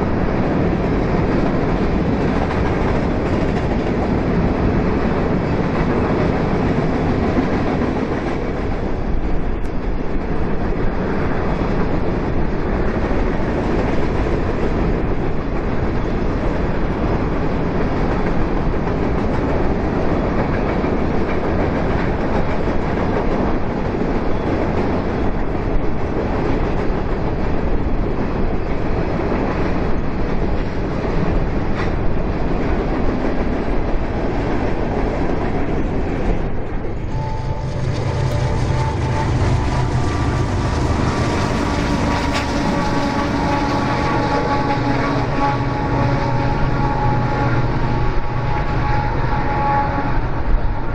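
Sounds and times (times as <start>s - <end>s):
freight train wheels clattering: 0.0s - 50.8s.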